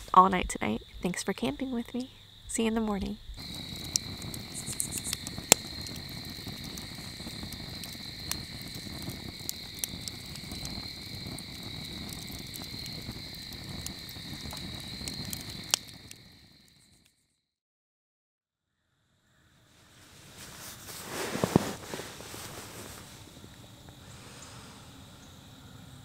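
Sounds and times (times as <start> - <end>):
crickets chirping: 0.0 - 17.5, 18.7 - 26.0.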